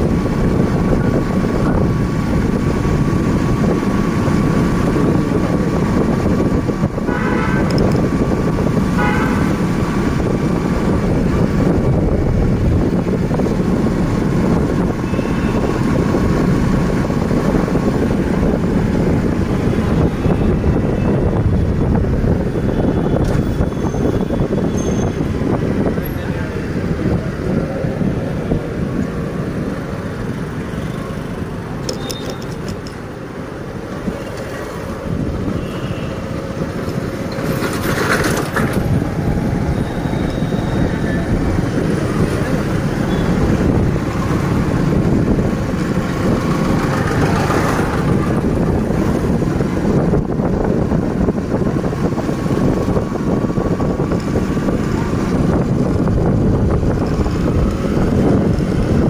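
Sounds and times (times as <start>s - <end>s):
road vehicle rumble: 0.0s - 59.0s
wind noise on microphone: 0.0s - 59.0s.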